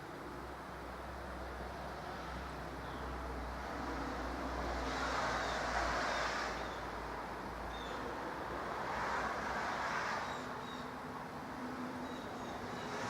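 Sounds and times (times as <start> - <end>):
distant road traffic hiss: 0.0 - 13.0.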